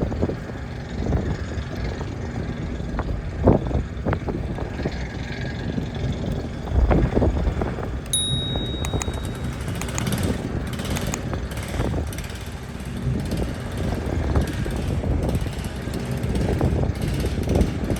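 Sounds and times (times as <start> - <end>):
heavy diesel engines rumbling: 0.0 - 17.9.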